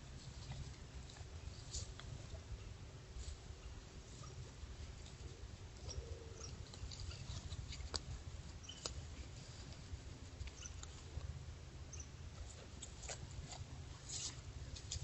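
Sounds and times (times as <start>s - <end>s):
deer chewing grass: 0.0s - 15.0s
low steady rumble: 0.0s - 15.0s.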